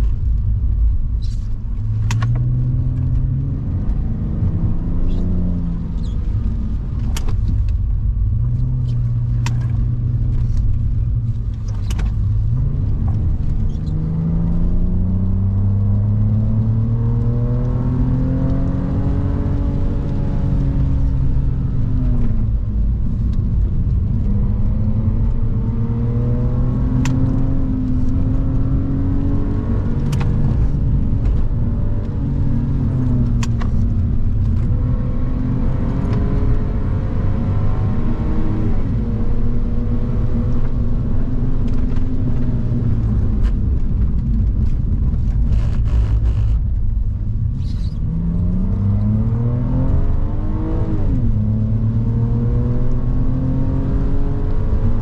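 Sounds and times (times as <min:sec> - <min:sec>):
car engine accelerating: 0:00.0 - 0:55.0
road and tyre rumble: 0:00.0 - 0:55.0.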